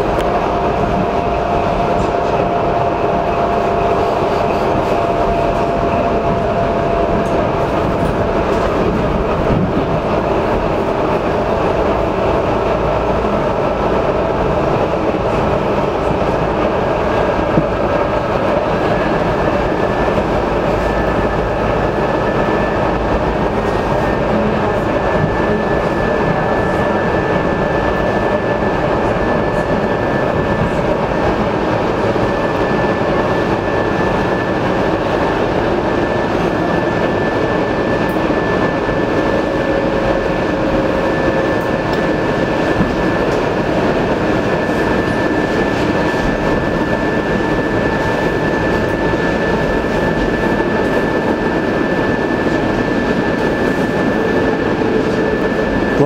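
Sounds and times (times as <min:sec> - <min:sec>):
constant high whine: 0:00.0 - 0:56.0
train wheels on rails: 0:00.0 - 0:56.0.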